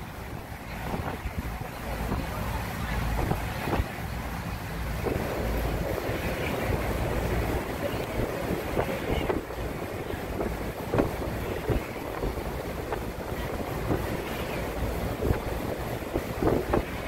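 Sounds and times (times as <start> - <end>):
boat rushing through water: 0.0 - 17.0
wind buffeting microphone: 0.0 - 17.0.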